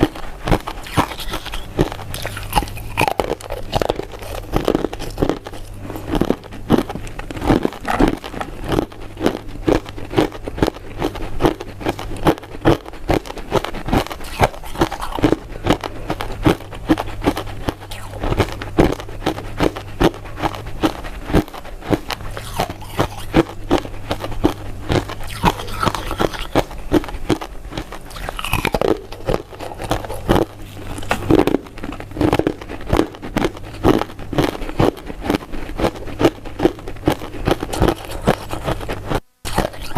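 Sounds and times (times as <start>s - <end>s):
chewing sweets with mouth clicks: 0.0s - 39.9s
faint low hum: 0.0s - 39.9s.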